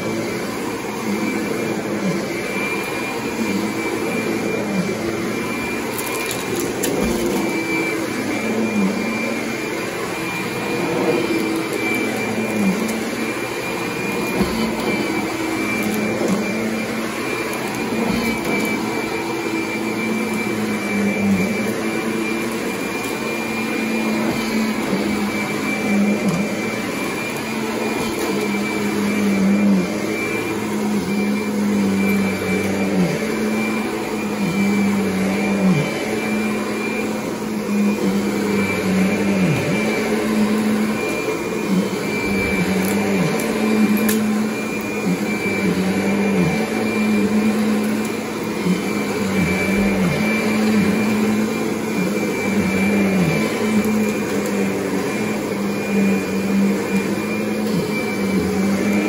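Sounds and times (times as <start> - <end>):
vacuum cleaner running over carpet: 0.0 - 59.0.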